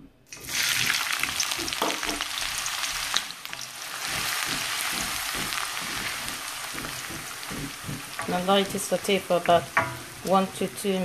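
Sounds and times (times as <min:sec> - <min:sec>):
onions sizzling in oil: 0:00.4 - 0:11.0
wooden spoon stirring: 0:00.8 - 0:11.0.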